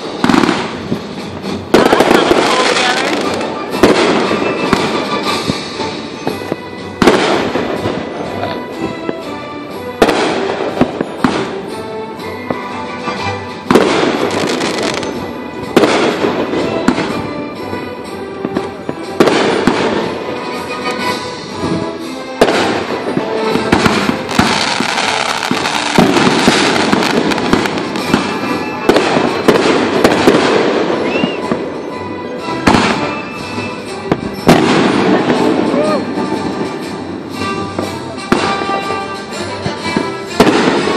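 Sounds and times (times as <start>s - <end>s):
fireworks booming: 0.0s - 9.3s, 10.0s - 12.7s, 13.5s - 32.0s, 32.6s - 40.9s
fireworks crackling: 0.0s - 40.9s.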